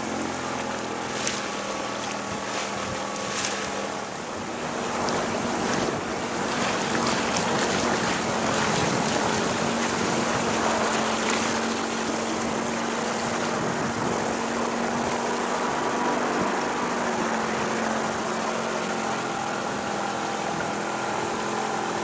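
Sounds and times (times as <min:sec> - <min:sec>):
water rushing past boat: 0:00.0 - 0:22.0
wind buffeting microphone: 0:01.4 - 0:22.0.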